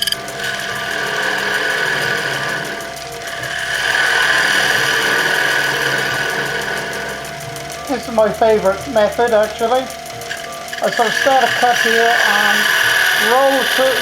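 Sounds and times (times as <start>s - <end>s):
chisel scraping spinning wood: 0.0s - 14.0s.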